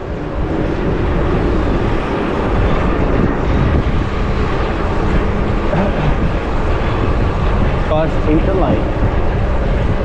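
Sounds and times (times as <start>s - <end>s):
traffic noise: 0.0s - 10.0s
wind on microphone: 0.0s - 10.0s.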